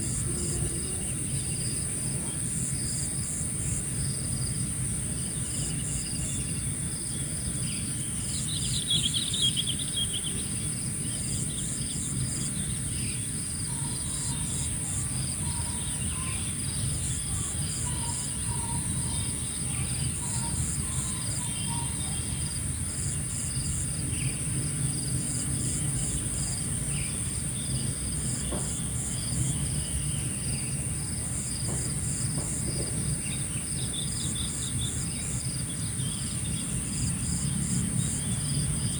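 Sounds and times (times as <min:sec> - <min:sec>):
insect chirps: 0:00.0 - 0:38.9
bird calls: 0:05.2 - 0:38.9.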